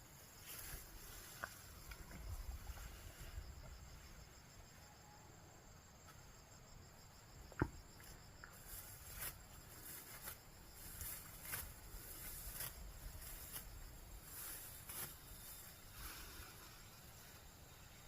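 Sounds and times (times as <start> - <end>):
insect trill: 0.0 - 18.0.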